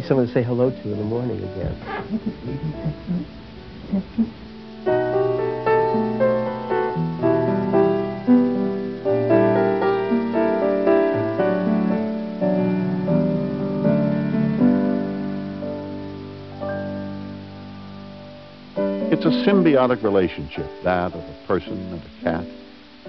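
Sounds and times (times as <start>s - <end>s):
background music melody: 0.0s - 23.0s.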